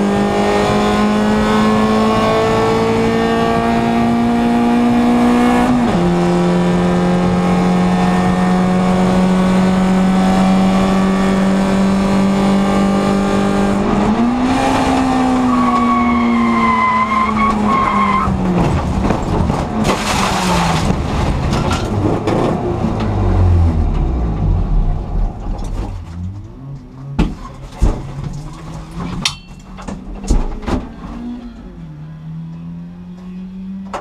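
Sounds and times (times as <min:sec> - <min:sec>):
race car engine: 0:00.0 - 0:34.0.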